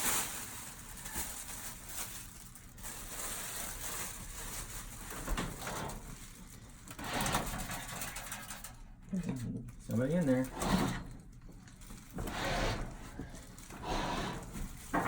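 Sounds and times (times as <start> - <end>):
crinkling and rustling handling noise: 0.0 - 15.0.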